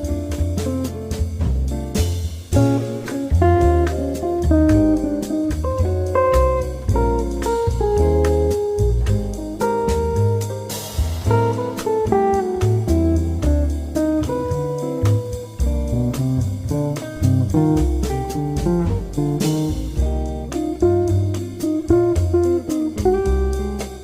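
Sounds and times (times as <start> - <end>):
bass line: 0.0 - 24.0
plucked guitar jazzy tune: 0.0 - 24.0
steady beat: 0.0 - 24.0.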